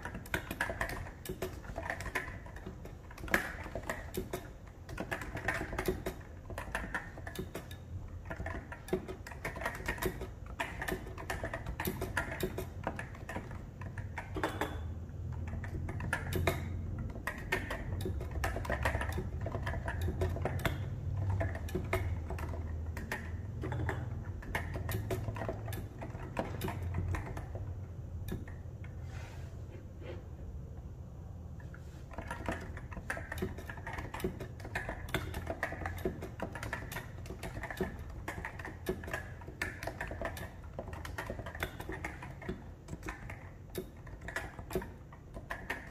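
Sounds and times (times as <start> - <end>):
thocky keyboard typing: 0.0 - 28.8, 31.6 - 45.9.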